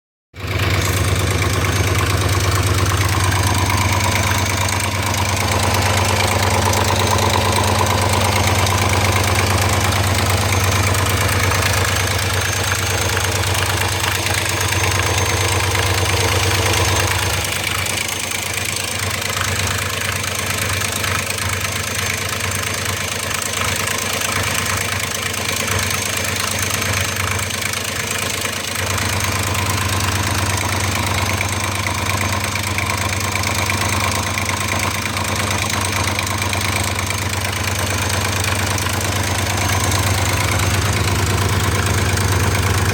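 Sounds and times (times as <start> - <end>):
car engine idling with knocking: 0.3 - 42.9.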